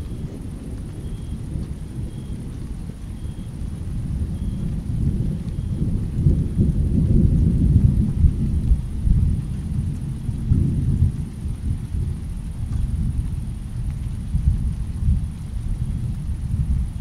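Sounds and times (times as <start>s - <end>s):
rolling thunder: 0.0s - 17.0s
steady rainfall: 0.0s - 17.0s.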